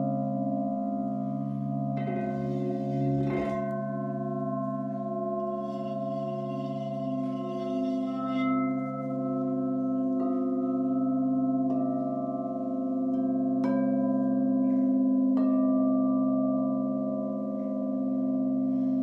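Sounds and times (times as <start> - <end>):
crystal singing bowls ringing: 1.2 - 19.0.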